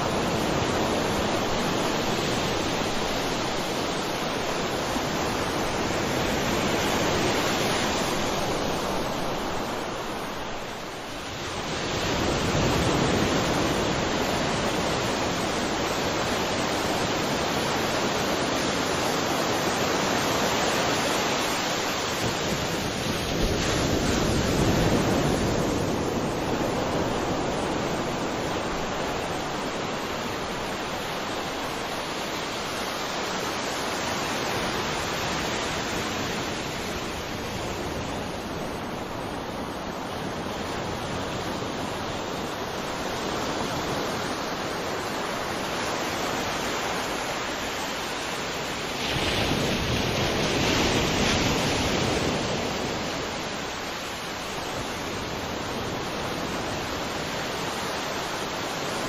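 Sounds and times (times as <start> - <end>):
sea waves washing onto shore: 0.0 - 59.0.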